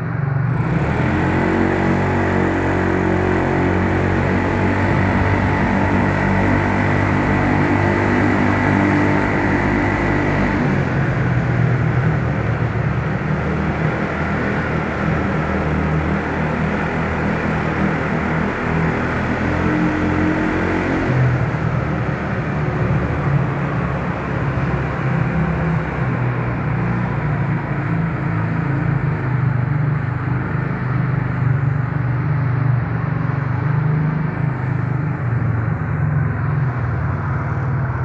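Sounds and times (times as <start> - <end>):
wind and road noise: 0.0 - 38.0
scooter engine humming: 0.1 - 38.0.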